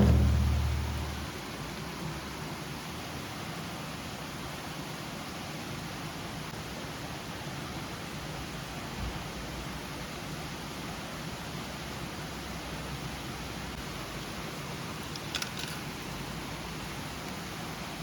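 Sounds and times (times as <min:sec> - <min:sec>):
mountain river rushing: 0:00.0 - 0:18.0.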